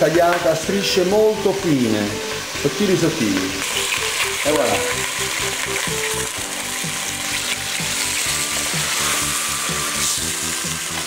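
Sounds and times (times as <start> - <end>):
background music: 0.0 - 11.0
meat and onion sizzling in oil: 0.0 - 11.0.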